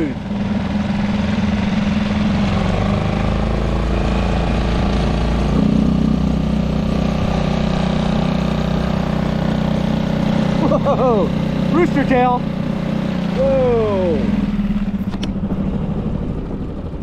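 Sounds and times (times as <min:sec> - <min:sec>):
water rushing: 0:00.0 - 0:15.0
outboard motor running: 0:00.0 - 0:17.0.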